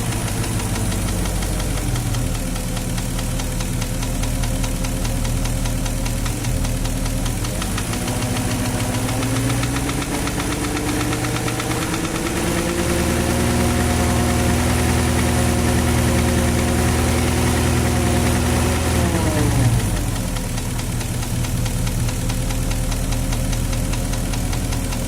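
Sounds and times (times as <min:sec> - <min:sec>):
car engine running: 0:00.0 - 0:25.0
fast engine knock: 0:00.0 - 0:25.0.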